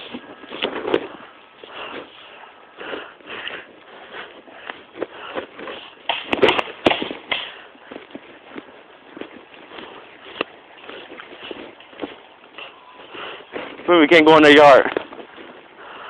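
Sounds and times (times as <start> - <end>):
footsteps: 0.0 - 16.0
rustling: 0.0 - 16.0.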